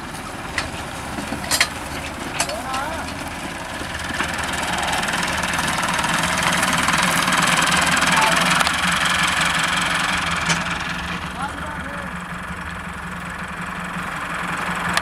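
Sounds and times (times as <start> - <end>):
harrow discs scraping and rattling: 0.0 - 15.0
tractor engine running: 0.0 - 15.0.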